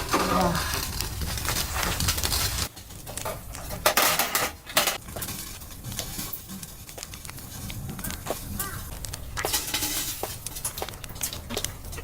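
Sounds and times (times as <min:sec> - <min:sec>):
cookware and utensils clinking: 0:01.6 - 0:12.0.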